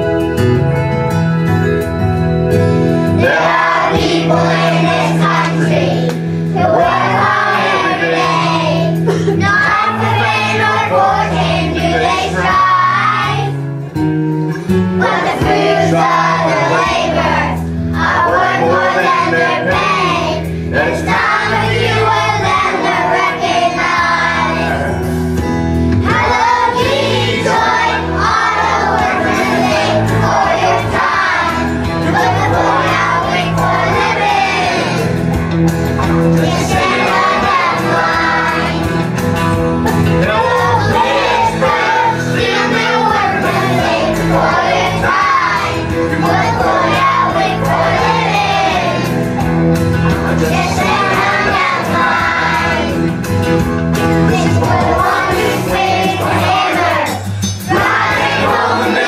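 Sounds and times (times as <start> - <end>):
instrumental accompaniment: 0.0 - 59.0
young children singing: 3.2 - 13.6, 14.9 - 25.0, 26.0 - 35.2, 36.2 - 39.1, 40.2 - 49.3, 50.1 - 53.1, 54.2 - 59.0.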